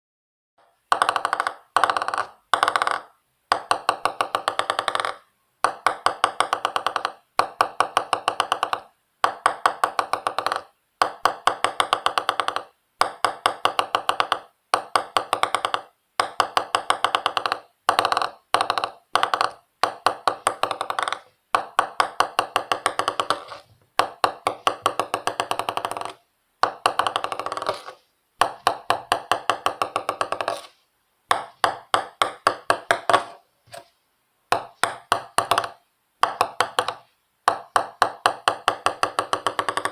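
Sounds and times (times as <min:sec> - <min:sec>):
ping pong ball bouncing: 0:00.6 - 0:33.8, 0:34.5 - 0:39.9.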